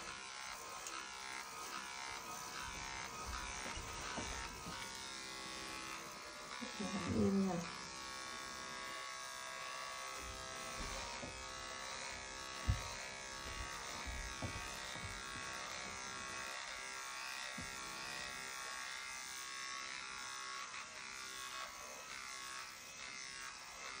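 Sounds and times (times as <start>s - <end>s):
electric pet trimmer buzzing: 0.0s - 24.0s.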